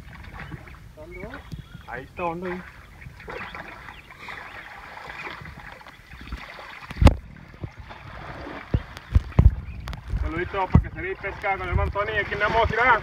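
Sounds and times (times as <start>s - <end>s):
river water sloshing and splashing: 0.0s - 13.0s.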